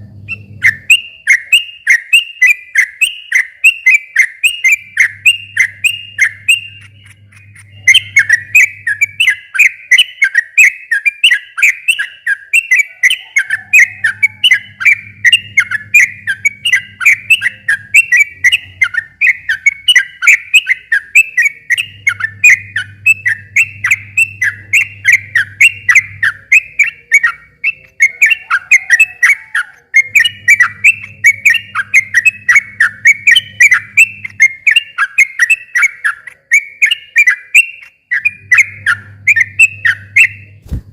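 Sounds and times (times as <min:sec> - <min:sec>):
bird singing chattering notes: 0:00.1 - 0:40.6.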